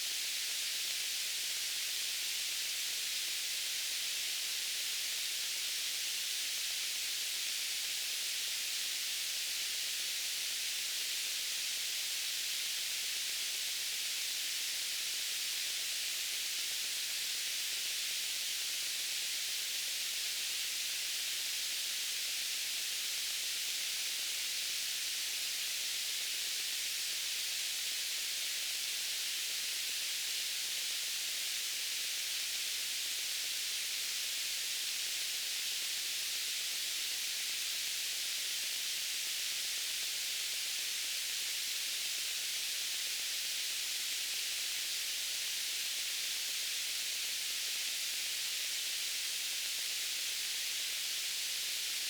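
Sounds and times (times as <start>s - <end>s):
white noise hiss: 0.0s - 52.0s.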